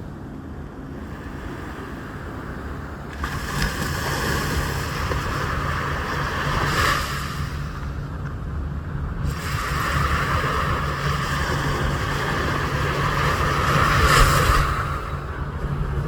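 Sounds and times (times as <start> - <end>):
sea waves washing in: 0.0 - 16.0.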